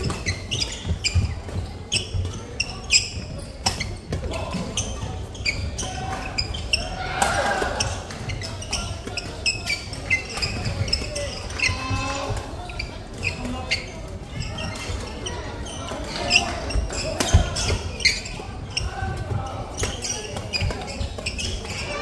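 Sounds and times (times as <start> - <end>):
shoes squeaking on hardwood floor: 0.0 - 22.0.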